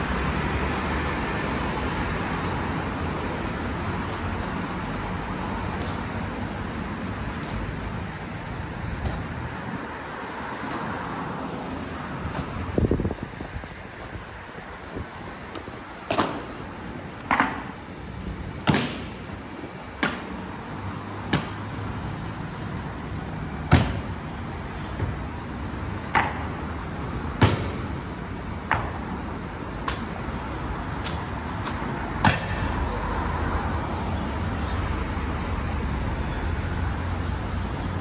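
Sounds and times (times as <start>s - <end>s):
traffic rumble: 0.0s - 38.0s.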